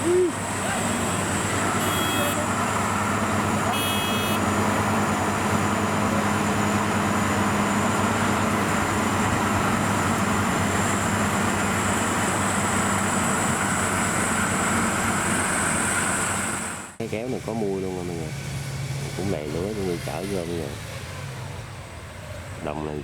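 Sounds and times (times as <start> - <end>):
harvester engine drone: 0.0 - 23.0.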